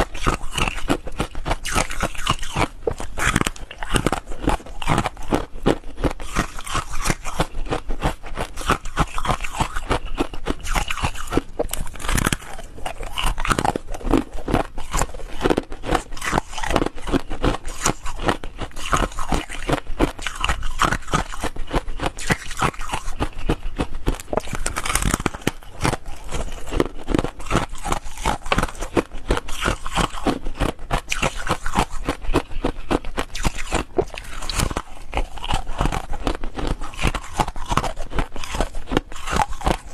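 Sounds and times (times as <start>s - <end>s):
crunching ice being chewed: 0.0s - 39.9s.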